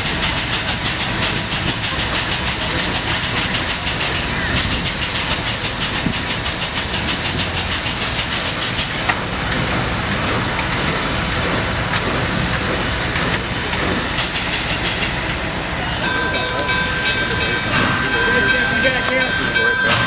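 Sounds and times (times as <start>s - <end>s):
steam hiss: 0.0s - 19.5s
steam train chuffing: 0.0s - 20.0s.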